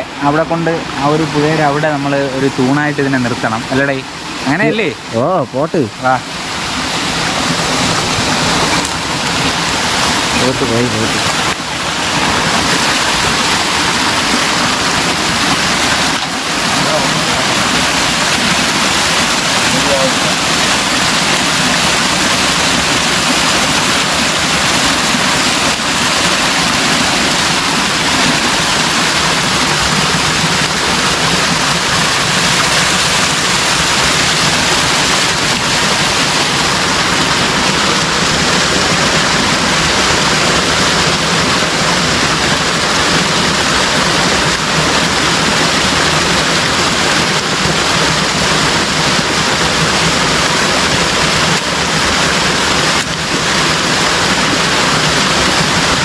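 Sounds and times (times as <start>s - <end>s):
stream of water flowing: 0.0s - 56.0s.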